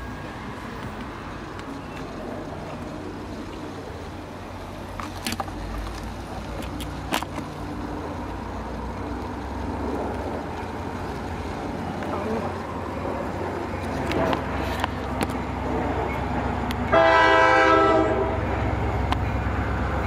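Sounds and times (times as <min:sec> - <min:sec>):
car driving rumble: 0:00.0 - 0:17.2.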